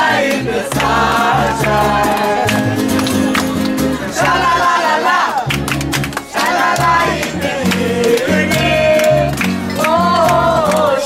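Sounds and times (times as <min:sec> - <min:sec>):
voices singing: 0:00.0 - 0:05.6, 0:06.2 - 0:11.0
plucked double bass: 0:00.0 - 0:11.0
strummed guitar: 0:00.0 - 0:11.0.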